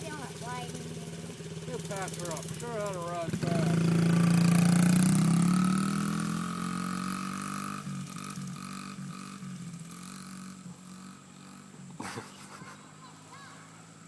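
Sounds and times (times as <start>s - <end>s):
mini bike engine running: 0.0s - 14.0s.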